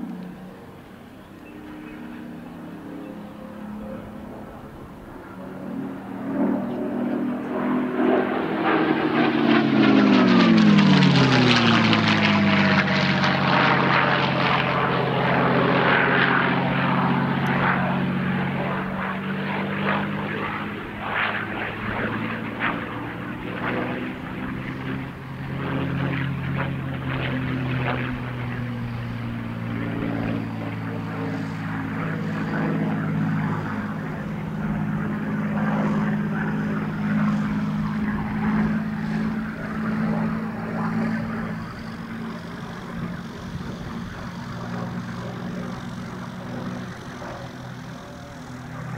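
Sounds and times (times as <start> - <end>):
propeller plane flying past: 0.0 - 48.9.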